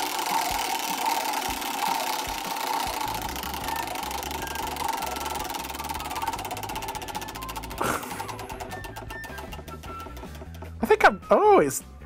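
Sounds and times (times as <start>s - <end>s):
turntable whirring rumble: 0.0s - 10.8s.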